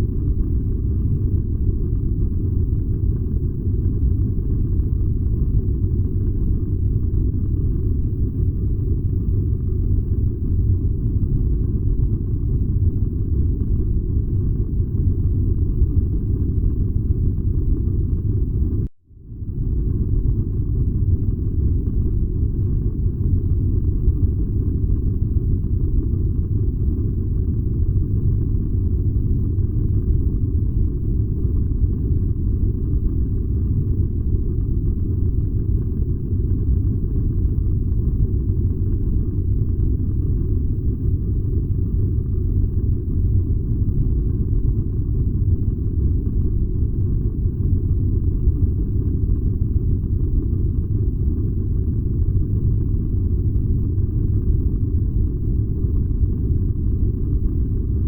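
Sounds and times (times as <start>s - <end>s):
furnace low rumble: 0.0s - 58.0s.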